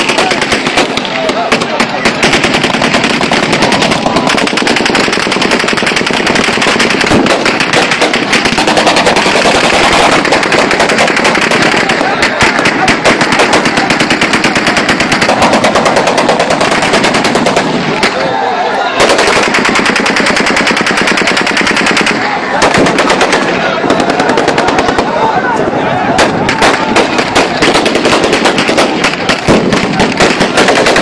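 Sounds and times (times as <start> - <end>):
automatic gunfire: 0.0 - 18.2, 19.0 - 25.2, 26.1 - 31.0.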